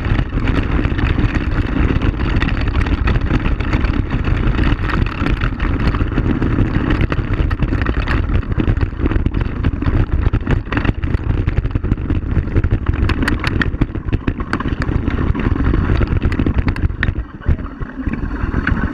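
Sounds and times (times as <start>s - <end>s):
clicks and rattles: 0.0s - 18.9s
quad bike engine rumble: 0.0s - 18.9s.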